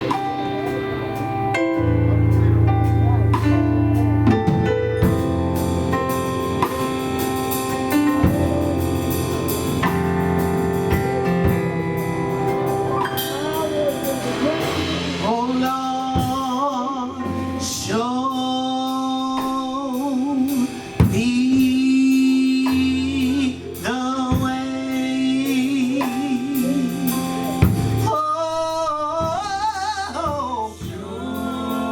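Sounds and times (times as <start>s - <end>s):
band playing sustained chords: 0.0s - 28.2s.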